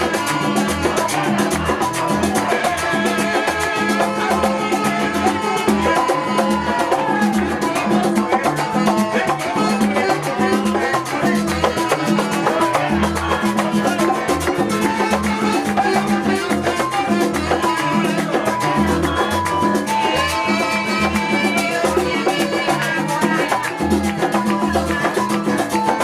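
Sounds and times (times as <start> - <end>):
salsa music: 0.0 - 26.0.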